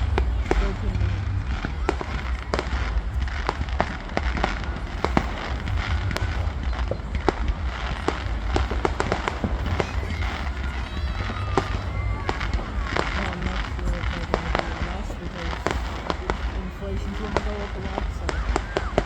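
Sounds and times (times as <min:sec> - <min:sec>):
fireworks bangs and crackles: 0:00.0 - 0:19.0
low rumble: 0:00.0 - 0:19.0.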